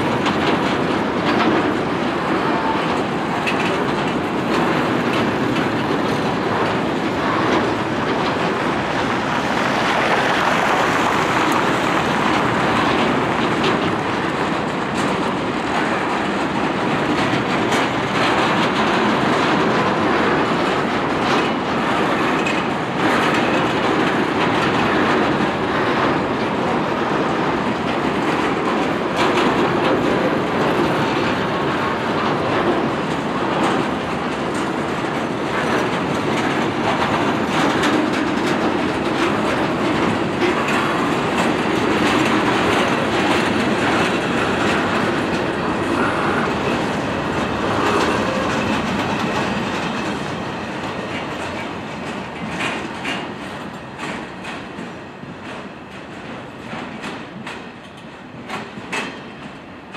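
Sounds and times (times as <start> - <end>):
train wagons rumbling: 0.0 - 59.9
wheels clicking over rail joints: 0.0 - 59.9.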